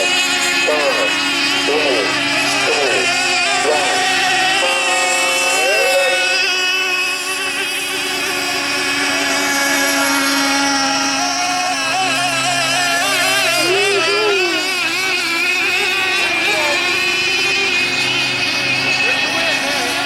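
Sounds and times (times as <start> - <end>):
model boat motors whining: 0.0 - 20.0.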